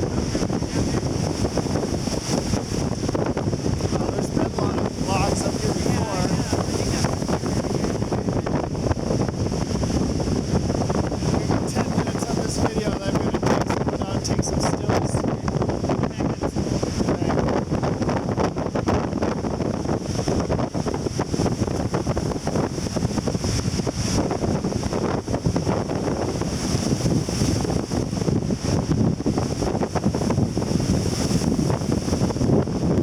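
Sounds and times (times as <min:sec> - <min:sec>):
breaking surf: 0:00.0 - 0:33.0
wind buffeting microphone: 0:00.0 - 0:33.0.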